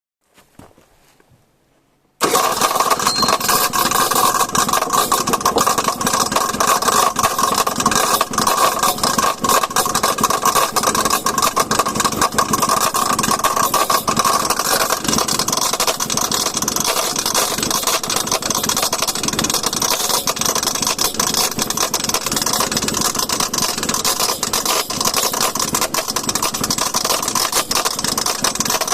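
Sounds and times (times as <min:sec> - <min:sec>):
two-stroke engine starting and running: 0:02.2 - 0:28.9.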